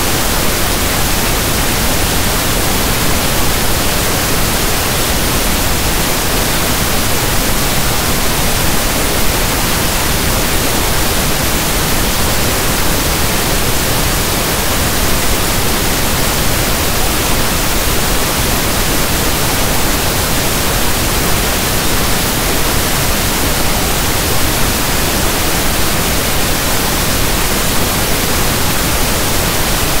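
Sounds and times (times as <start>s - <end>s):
steady pink noise hiss: 0.0s - 30.0s.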